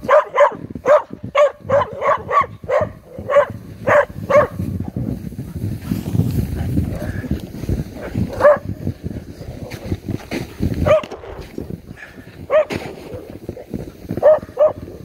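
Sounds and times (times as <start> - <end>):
running footsteps crunching snow: 0.0 - 15.0.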